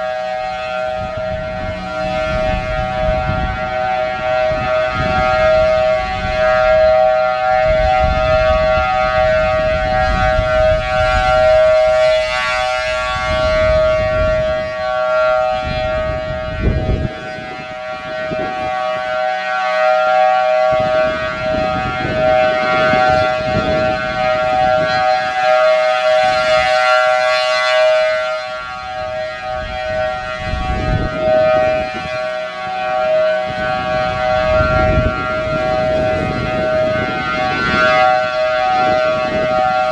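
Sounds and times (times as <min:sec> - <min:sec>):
warning siren tone: 0:00.0 - 0:39.9
wind rumble on microphone: 0:00.0 - 0:39.9.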